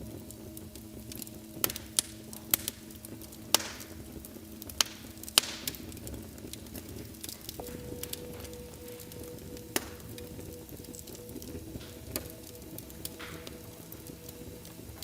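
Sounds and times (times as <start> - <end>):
faint low hum: 0.0 - 15.0
wood fire crackling: 0.0 - 15.0.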